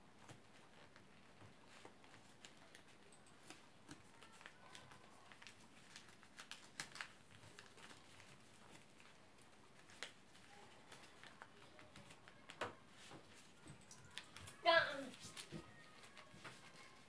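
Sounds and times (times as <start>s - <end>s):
paper crinkling: 0.1s - 17.0s.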